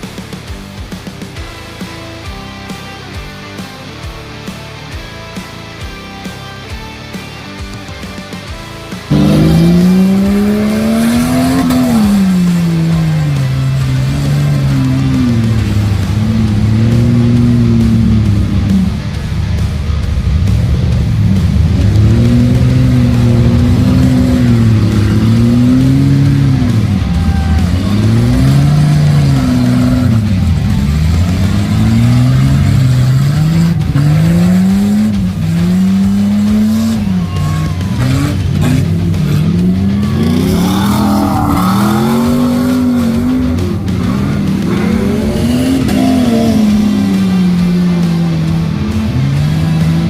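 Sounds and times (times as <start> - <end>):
truck engine revving loudly: 7.1 - 50.0.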